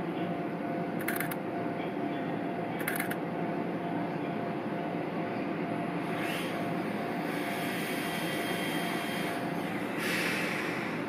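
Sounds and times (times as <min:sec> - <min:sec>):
steady whine: 0:00.0 - 0:11.0
tram equipment humming: 0:00.0 - 0:11.0.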